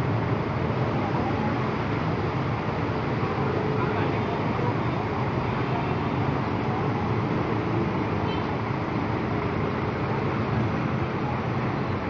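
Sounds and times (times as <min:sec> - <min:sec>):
motorbike and car engines: 0:00.0 - 0:12.0.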